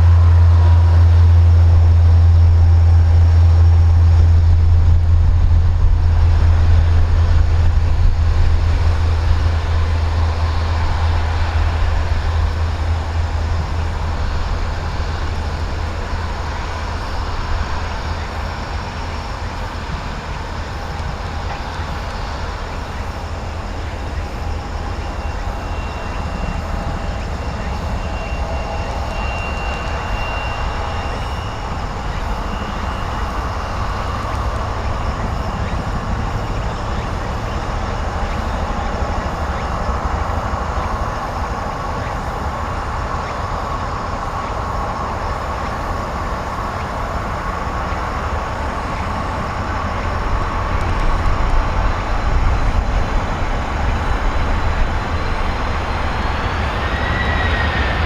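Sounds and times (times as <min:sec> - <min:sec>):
jet engines rumbling and whining: 0:00.0 - 0:58.0.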